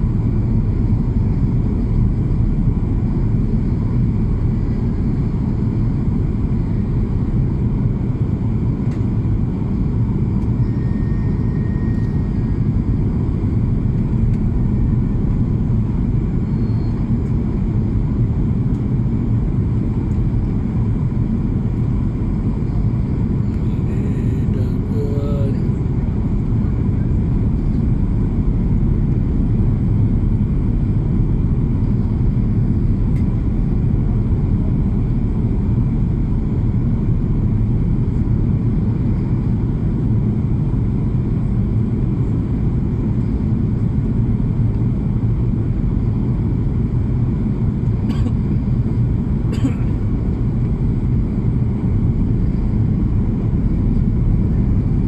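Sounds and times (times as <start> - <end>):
airplane low rumble: 0.0 - 55.0.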